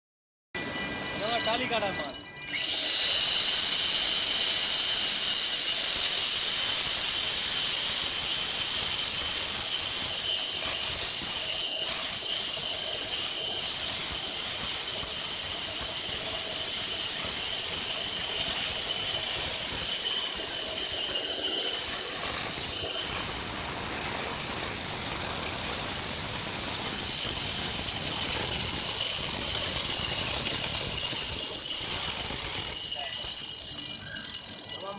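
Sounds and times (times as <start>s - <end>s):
saw blade screeching into concrete: 0.6s - 34.9s.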